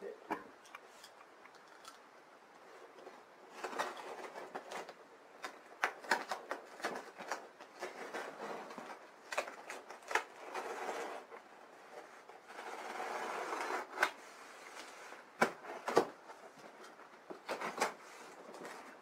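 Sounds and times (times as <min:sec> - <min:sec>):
cardboard and tape rustling: 0:02.6 - 0:19.0.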